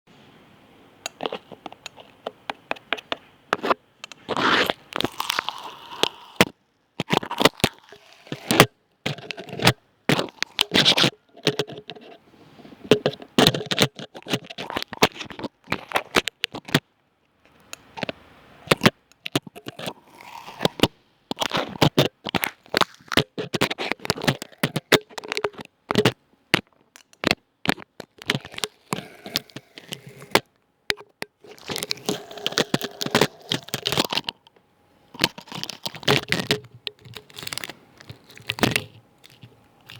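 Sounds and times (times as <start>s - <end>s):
scratching and crackling: 1.0s - 39.9s.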